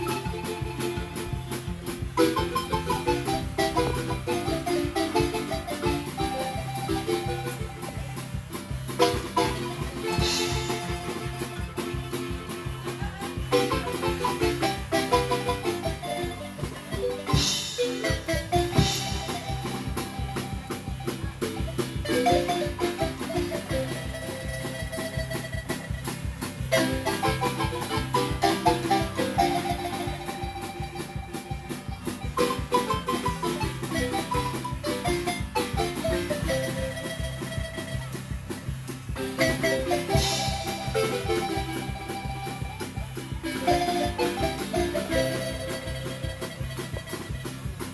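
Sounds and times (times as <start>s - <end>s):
marimba dance tune: 0.0s - 47.9s.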